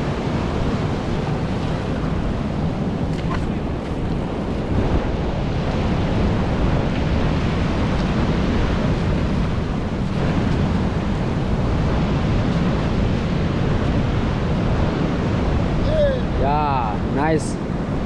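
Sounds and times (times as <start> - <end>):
ocean surf breaking on rocks: 0.0 - 18.0
wind buffeting microphone: 0.0 - 18.0.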